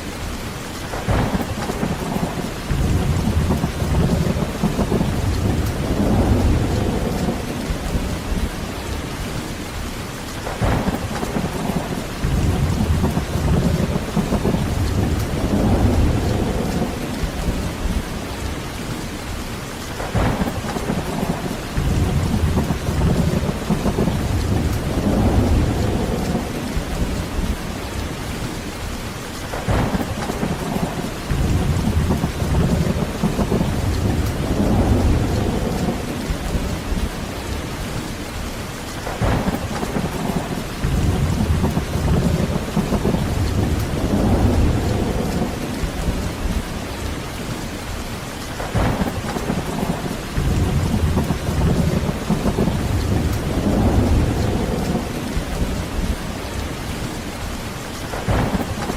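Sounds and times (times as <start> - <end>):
heavy rain falling: 0.0 - 58.9
thunder cracking and rumbling: 0.8 - 9.8, 10.4 - 19.0, 19.8 - 58.9.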